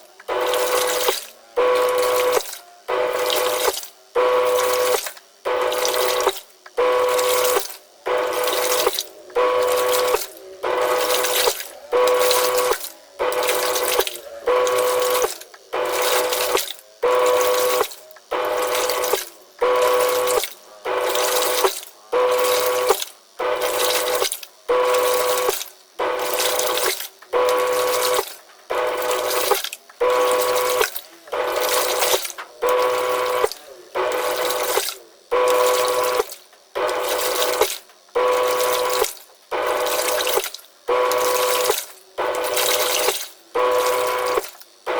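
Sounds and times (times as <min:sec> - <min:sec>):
motor hum: 0:00.0 - 0:44.9
washing machine churning water: 0:00.0 - 0:44.9.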